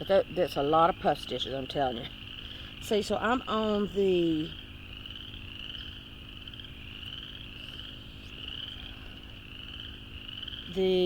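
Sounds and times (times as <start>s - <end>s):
frogs calling in chorus: 0.0s - 11.0s.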